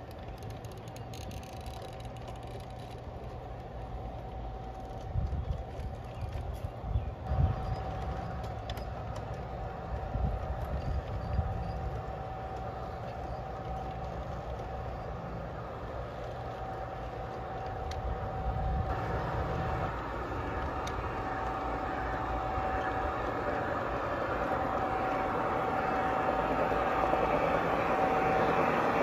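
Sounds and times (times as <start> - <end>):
model train wheels rumbling: 0.0 - 29.0
steady whine: 0.0 - 29.0.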